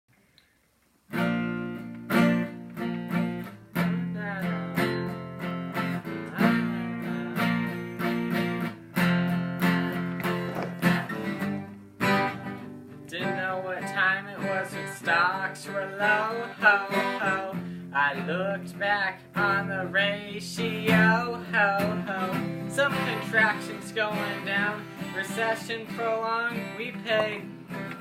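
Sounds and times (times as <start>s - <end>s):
acoustic guitar strumming chords: 1.1s - 28.0s.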